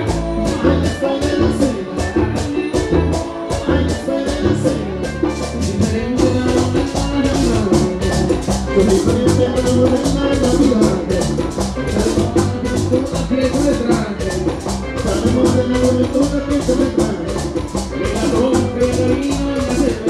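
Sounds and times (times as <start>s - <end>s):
guitar: 0.0s - 20.0s
hand percussion scraping beat: 0.0s - 20.0s
keyboard: 0.0s - 20.0s
tambora drum: 0.0s - 20.0s.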